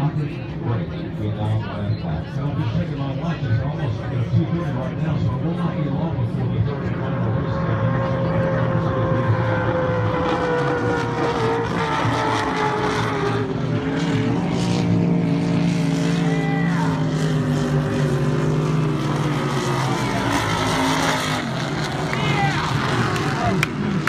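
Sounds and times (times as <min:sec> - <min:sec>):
powerboat engines droning: 0:00.0 - 0:24.0.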